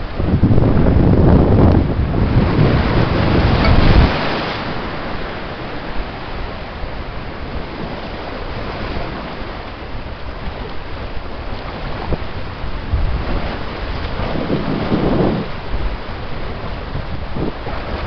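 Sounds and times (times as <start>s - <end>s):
wind rumbling on microphone: 0.0s - 18.0s
waves splashing against rocks: 2.2s - 18.0s.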